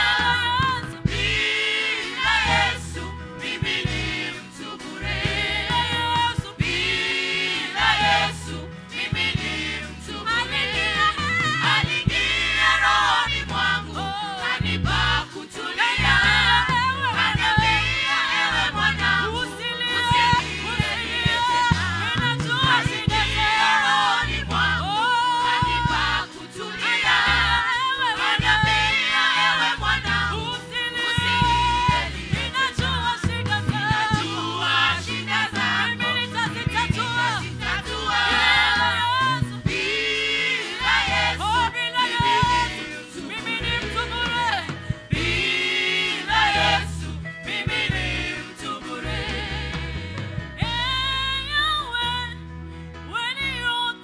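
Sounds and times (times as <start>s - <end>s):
choir singing gospel song: 0.0s - 52.4s
instrumental accompaniment with bass: 0.0s - 54.0s.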